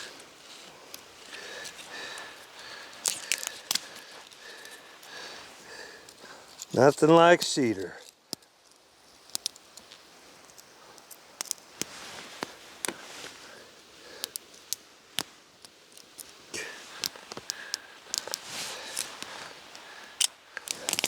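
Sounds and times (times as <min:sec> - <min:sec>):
campfire crackling and popping: 0:00.0 - 0:21.0
fire hissing softly: 0:00.0 - 0:21.0.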